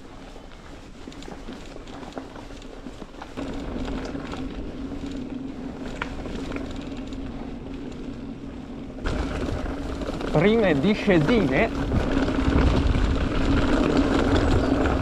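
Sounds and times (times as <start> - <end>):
bike tyres on gravel: 0.0 - 15.0.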